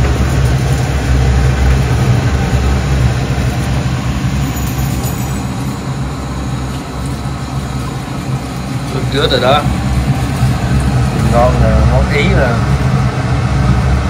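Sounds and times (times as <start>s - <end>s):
range hood fan humming: 0.0s - 14.0s.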